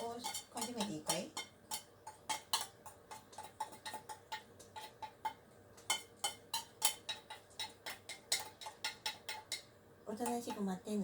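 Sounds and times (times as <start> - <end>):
spoon clicking on cat food tin: 0.0 - 10.6.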